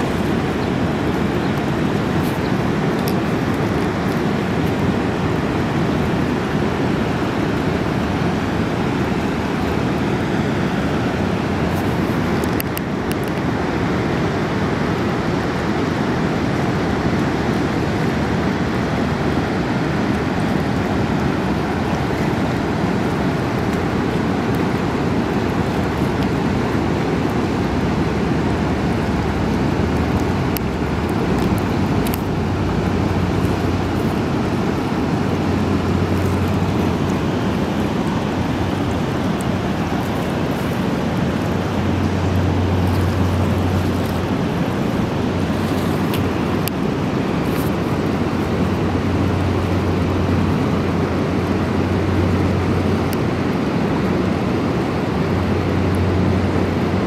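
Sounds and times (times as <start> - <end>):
river rapids rushing over rocks: 0.0 - 57.0.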